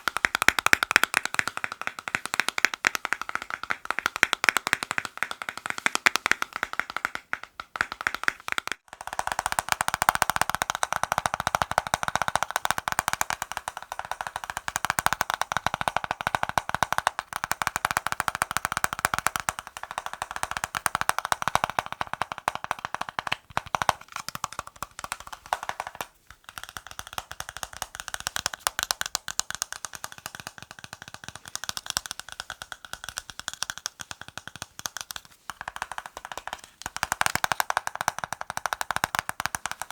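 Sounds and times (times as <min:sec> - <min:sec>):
fast tapping on hard object: 0:00.0 - 0:39.9.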